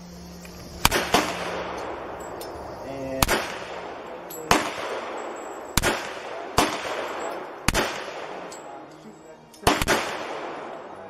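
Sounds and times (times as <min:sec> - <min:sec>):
pistol shots with echo: 0:00.8 - 0:11.0.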